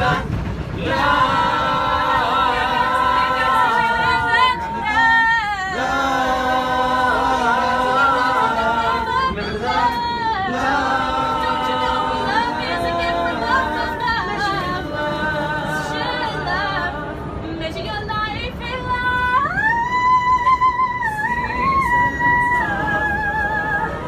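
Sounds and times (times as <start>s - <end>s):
vocal ensemble holding chords: 0.0s - 24.0s.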